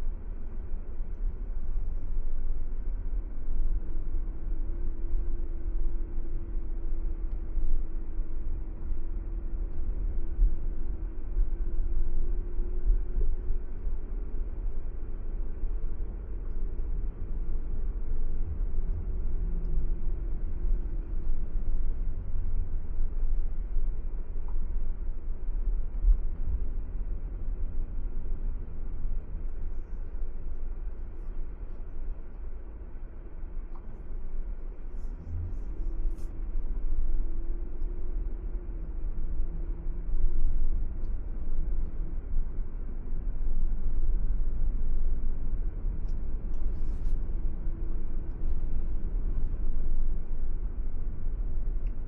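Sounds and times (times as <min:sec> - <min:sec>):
faint engine hum: 0:00.0 - 0:52.0.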